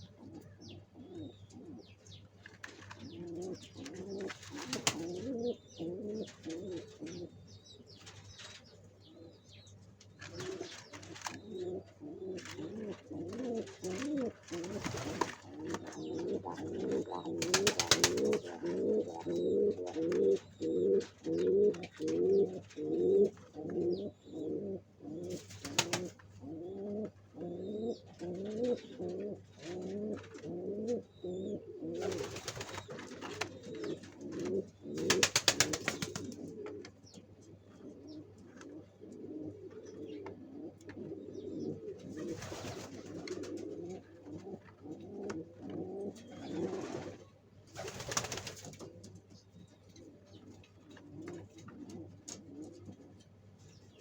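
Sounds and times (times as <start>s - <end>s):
pigeons cooing: 0.0s - 9.6s, 10.2s - 53.4s.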